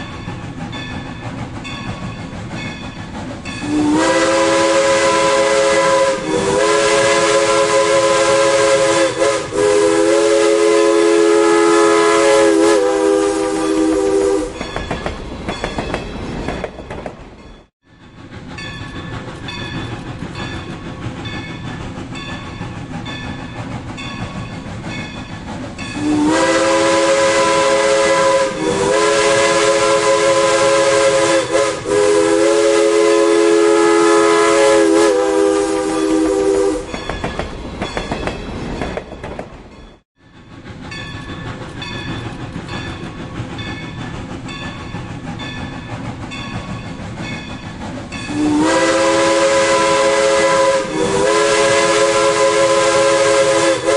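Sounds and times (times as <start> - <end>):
steam locomotive chime whistle: 0.0 - 15.9, 17.6 - 38.3, 40.3 - 53.9
train rumbling: 0.0 - 53.9.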